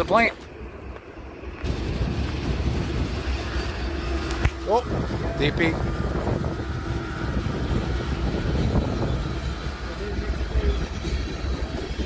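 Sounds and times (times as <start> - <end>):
diesel locomotive passing: 0.0 - 12.0
train wheels rumbling on rails: 0.0 - 12.0.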